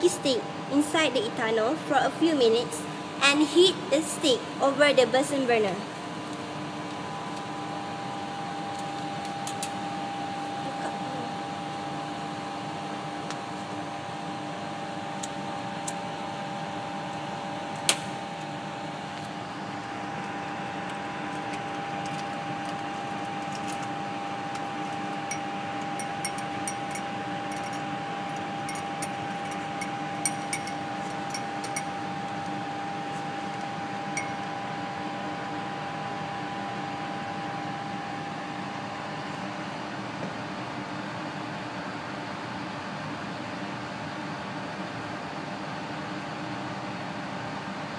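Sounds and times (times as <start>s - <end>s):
blower fan hum: 0.0s - 47.9s.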